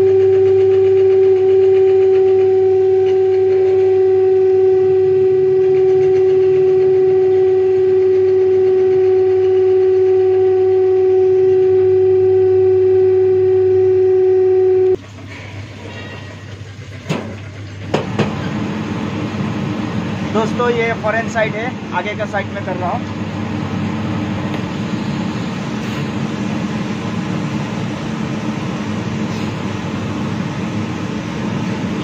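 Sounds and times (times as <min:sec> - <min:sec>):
loud steady hum: 0:00.0 - 0:32.0.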